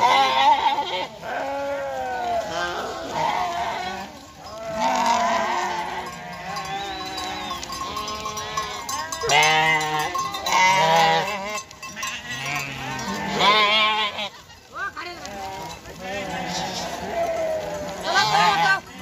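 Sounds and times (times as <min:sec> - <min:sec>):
small livestock bleating: 0:00.0 - 0:19.0.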